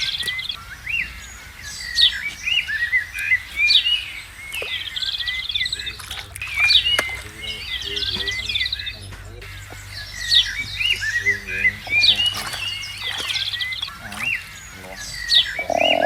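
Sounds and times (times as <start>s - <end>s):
birds chirping and singing: 0.0s - 16.0s
lower bird calls: 0.0s - 16.0s.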